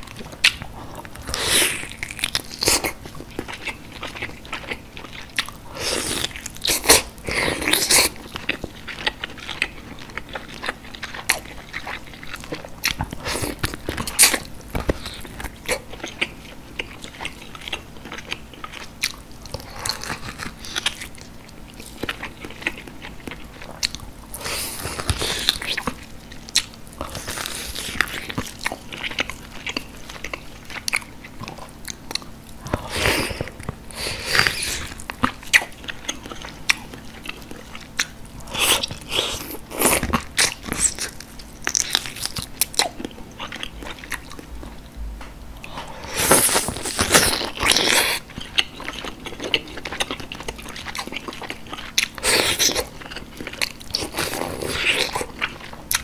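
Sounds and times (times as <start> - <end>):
person chewing: 0.0 - 45.0, 45.6 - 56.0.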